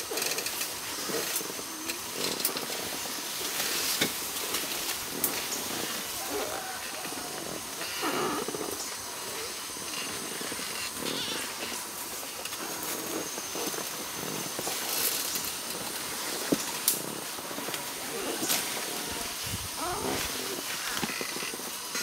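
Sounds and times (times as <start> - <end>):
elephant low purring rumbles: 0.0 - 22.0
elephant moving through undergrowth: 0.0 - 22.0
jungle insects droning: 0.0 - 22.0.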